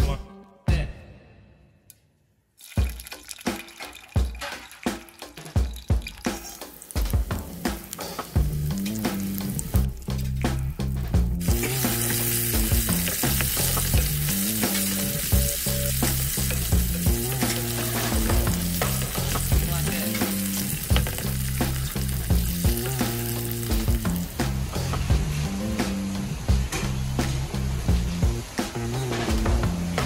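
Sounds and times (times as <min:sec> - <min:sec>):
potatoes sizzling in oil: 0:02.6 - 0:29.5.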